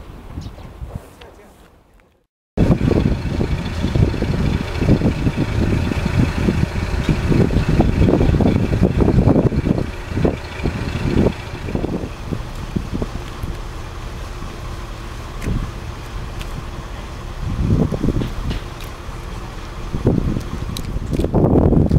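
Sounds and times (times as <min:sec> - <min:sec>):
diesel railcar engine idling: 0:02.6 - 0:21.7.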